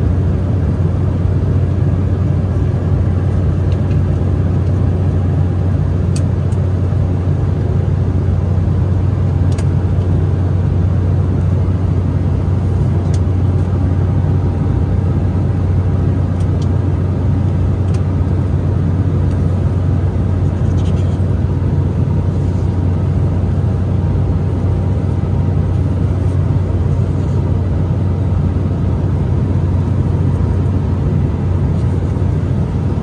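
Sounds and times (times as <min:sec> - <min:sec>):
airliner cabin engine drone: 0:00.0 - 0:33.0.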